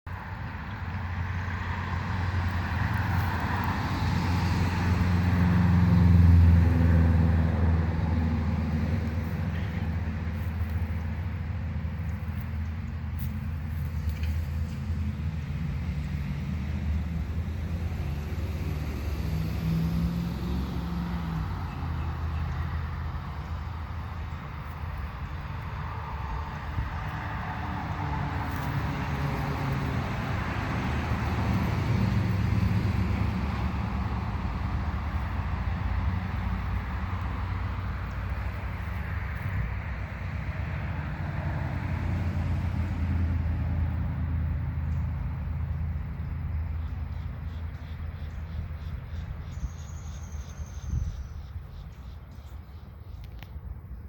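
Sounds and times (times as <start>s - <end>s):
vehicle passing: 0.1s - 51.2s
road traffic rumble: 0.1s - 54.0s.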